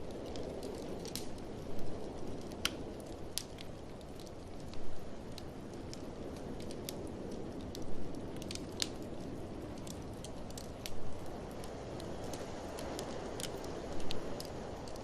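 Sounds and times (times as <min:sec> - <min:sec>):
blizzard wind rushing: 0:00.0 - 0:15.0
wood fire crackling: 0:00.0 - 0:15.0.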